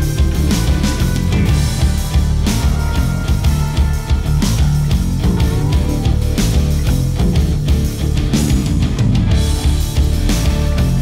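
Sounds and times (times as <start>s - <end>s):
music with drum beat and bass: 0.0s - 11.0s.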